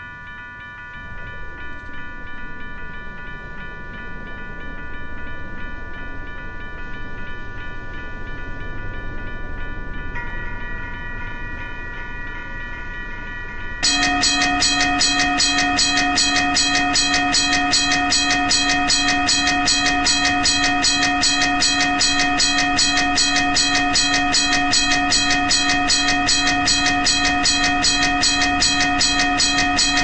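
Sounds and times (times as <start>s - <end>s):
freight train rumble: 0.0s - 30.0s.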